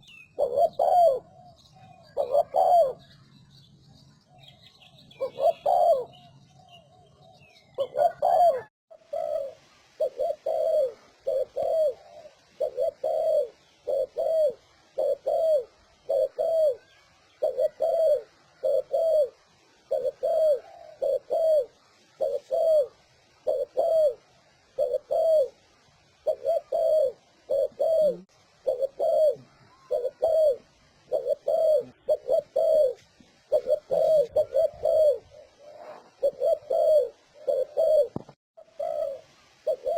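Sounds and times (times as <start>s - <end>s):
dove cooing rapidly: 0.0s - 3.2s, 5.1s - 6.3s, 7.3s - 39.9s.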